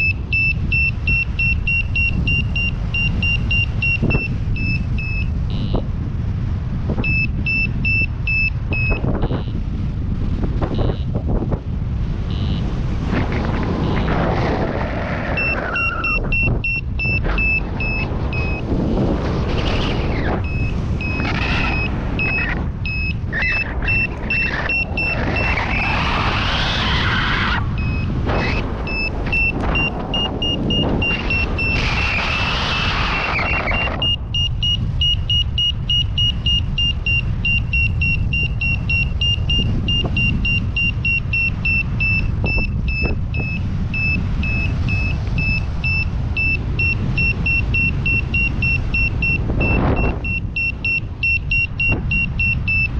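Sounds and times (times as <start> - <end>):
variometer high beeps: 0.0 - 5.9, 6.9 - 9.7, 10.6 - 11.2, 12.2 - 12.9, 13.8 - 14.2, 15.3 - 18.8, 19.6 - 26.0, 26.9 - 52.9
wind buffeting microphone: 0.0 - 52.9.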